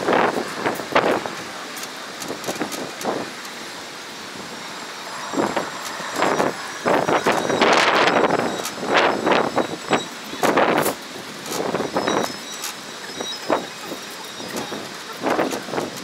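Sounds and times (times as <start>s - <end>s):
wind gusting on microphone: 0.0s - 16.0s.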